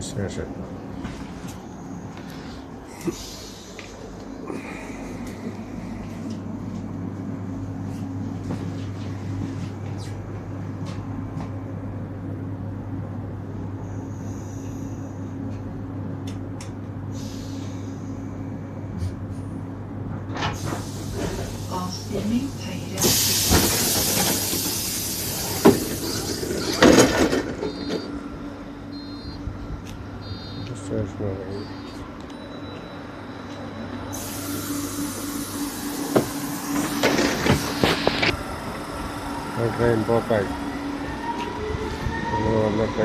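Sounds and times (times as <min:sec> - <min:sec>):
train electrical hum: 0:00.0 - 0:43.0.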